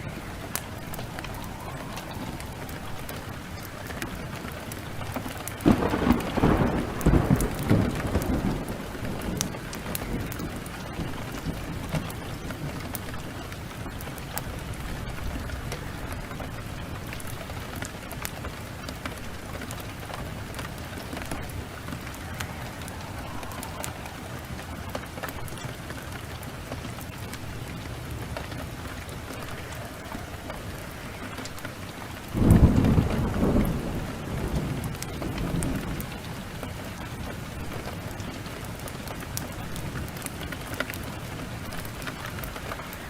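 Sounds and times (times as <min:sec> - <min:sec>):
small crackles: 0:00.0 - 0:43.0
steady rain: 0:00.0 - 0:43.0
thunder clap and rumble: 0:00.0 - 0:43.0.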